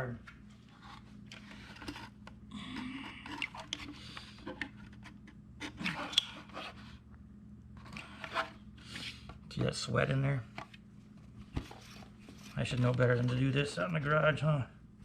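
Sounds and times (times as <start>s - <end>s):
scraping and rubbing handling noise: 0.2s - 7.0s, 7.7s - 14.4s.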